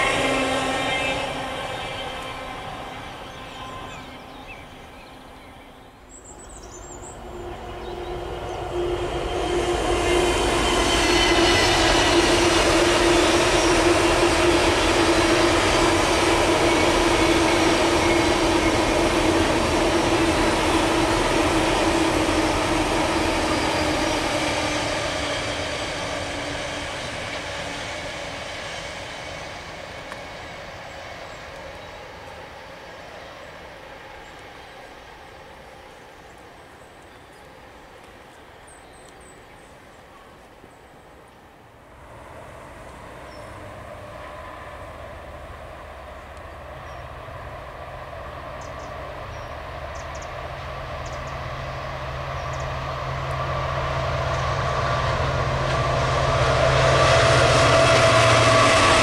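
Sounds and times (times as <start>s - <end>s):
diesel locomotive droning: 0.0s - 38.6s, 41.5s - 59.0s
freight train passing: 0.0s - 59.0s.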